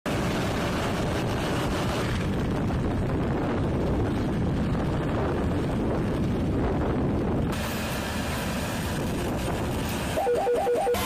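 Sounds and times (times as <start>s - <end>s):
wind buffeting microphone: 0.1s - 10.2s.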